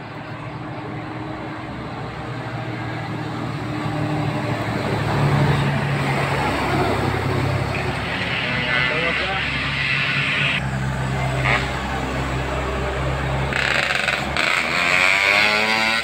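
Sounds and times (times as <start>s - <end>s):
diesel truck engine passing: 0.0s - 16.0s.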